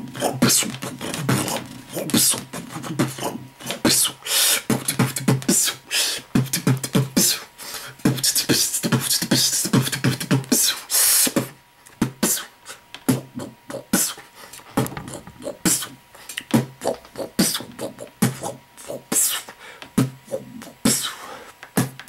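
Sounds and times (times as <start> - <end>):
beatboxing into a microphone: 0.0 - 22.0.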